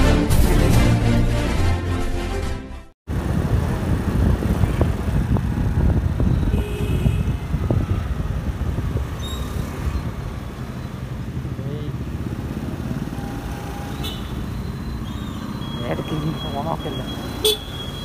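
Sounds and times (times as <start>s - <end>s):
motorbike engine and road noise: 3.1s - 18.0s.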